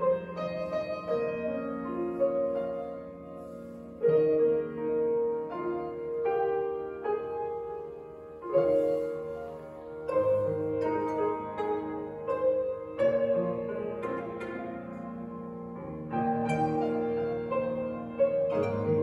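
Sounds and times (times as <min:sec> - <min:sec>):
grand piano playing slow chords: 0:00.0 - 0:19.0.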